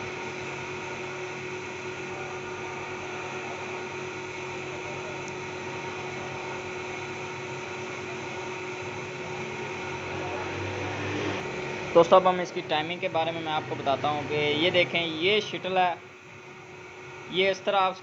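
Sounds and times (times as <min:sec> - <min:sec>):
machine hum with held tones: 0:00.0 - 0:18.0.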